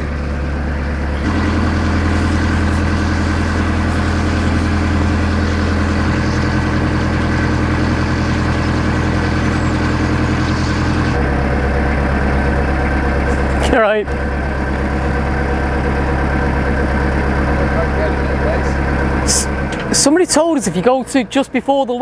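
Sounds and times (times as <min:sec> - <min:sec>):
boat diesel engine droning: 0:00.0 - 0:22.0.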